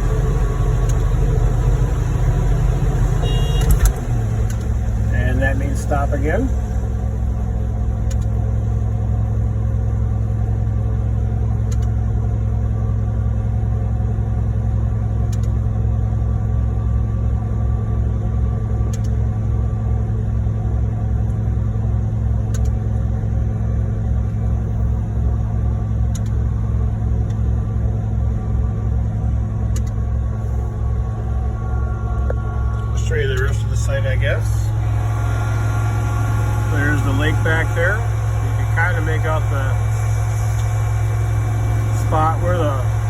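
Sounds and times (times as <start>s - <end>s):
diesel truck engines rumbling: 0.0s - 43.0s.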